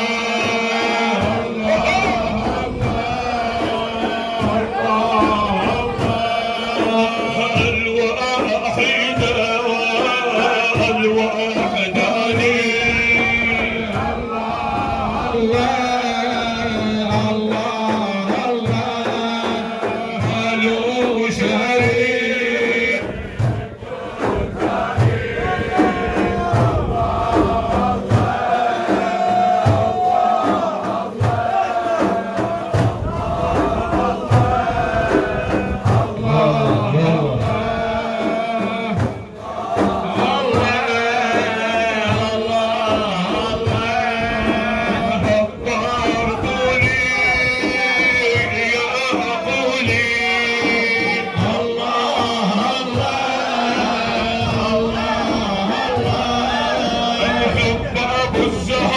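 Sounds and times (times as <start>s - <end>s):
men chanting: 0.0s - 58.9s
steady rhythmic beat: 0.0s - 58.9s.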